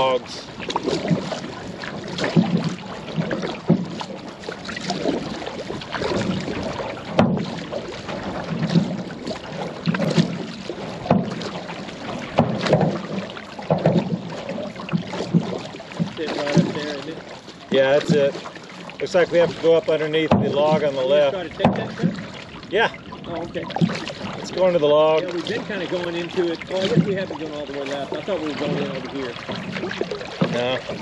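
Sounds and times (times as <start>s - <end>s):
paddle knocking on canoe: 0.0s - 31.0s
paddle splashing water: 0.0s - 31.0s.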